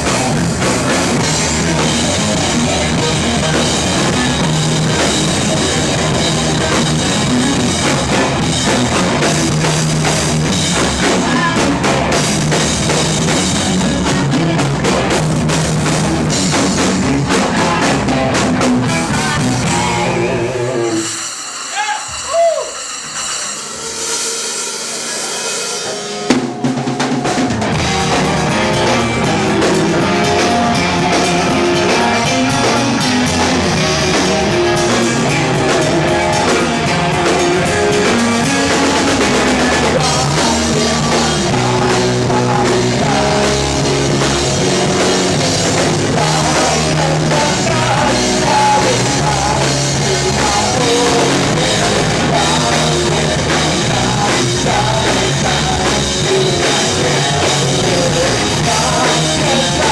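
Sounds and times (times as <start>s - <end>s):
drum kit: 0.0s - 59.9s
rock band playing live: 0.0s - 59.9s.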